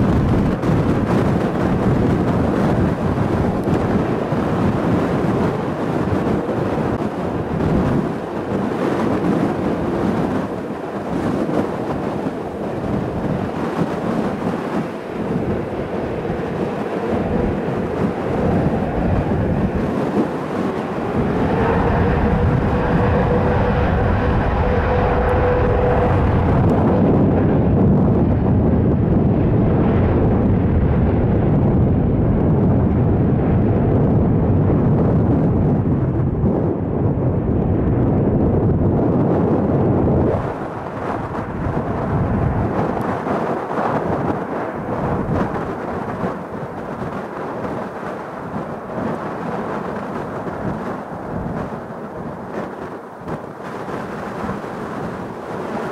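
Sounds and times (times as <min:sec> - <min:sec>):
deep steady rumble: 0:00.0 - 0:55.9
jet engine whine: 0:00.0 - 0:55.9
jet engines rushing: 0:00.0 - 0:55.9.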